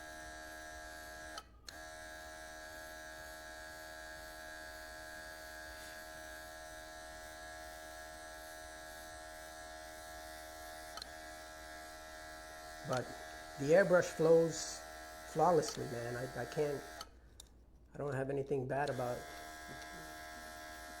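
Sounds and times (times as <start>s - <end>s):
airbrush compressor humming: 0.0s - 17.2s, 18.8s - 21.0s.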